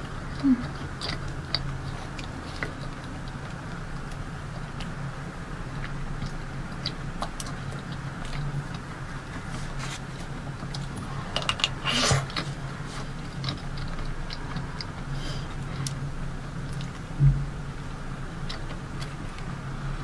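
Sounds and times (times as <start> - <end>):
low hum: 0.0 - 20.0
mouth and chewing clicks: 0.1 - 16.0, 16.6 - 17.3, 18.4 - 19.9.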